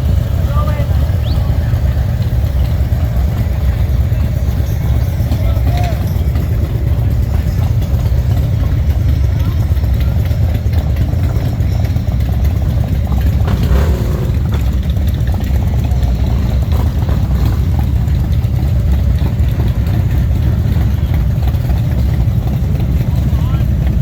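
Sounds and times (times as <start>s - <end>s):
motorcycle engines idling: 0.0s - 24.0s.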